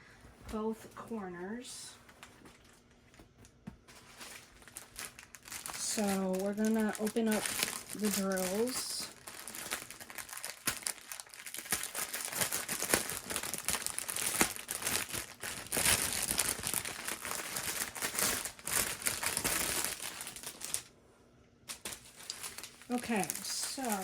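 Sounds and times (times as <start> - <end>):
plastic packaging crinkling: 2.0 - 20.9, 21.7 - 24.0.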